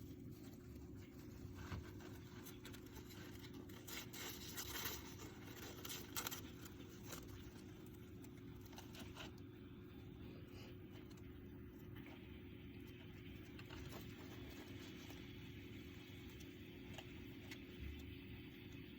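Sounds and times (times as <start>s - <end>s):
hamster scratching in bedding: 0.0s - 18.4s
steady low hum: 0.0s - 18.9s.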